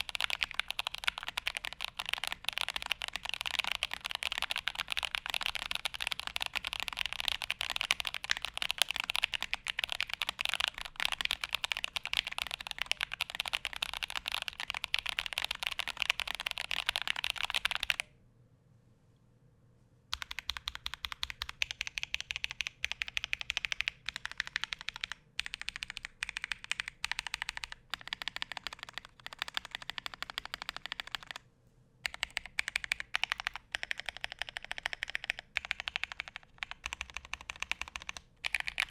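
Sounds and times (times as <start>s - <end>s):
mechanical keyboard typing: 0.0s - 18.1s, 20.1s - 31.4s, 32.0s - 38.9s.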